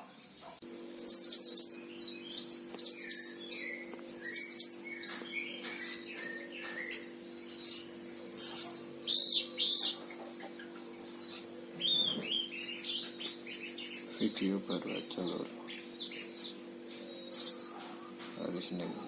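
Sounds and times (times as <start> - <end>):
songbird singing trills and whistles: 0.1 - 19.0.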